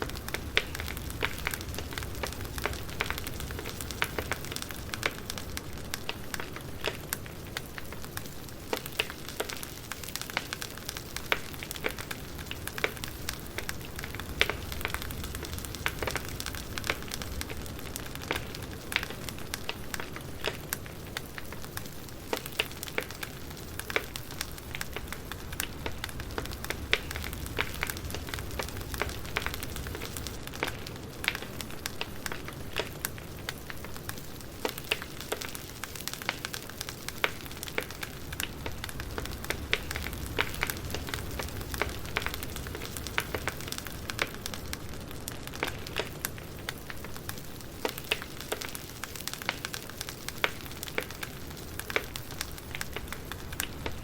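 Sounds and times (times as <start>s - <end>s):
firewood crackling and popping: 0.0s - 54.0s.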